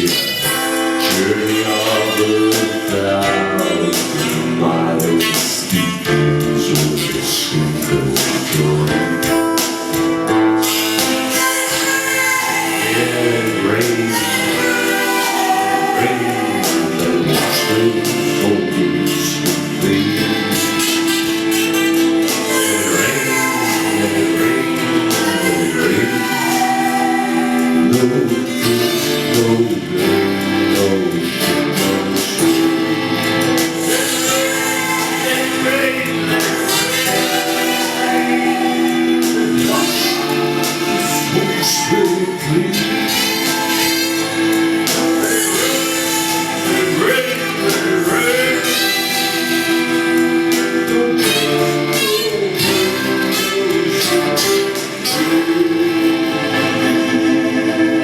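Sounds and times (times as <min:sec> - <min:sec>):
live singing with instruments: 0:00.0 - 0:58.0.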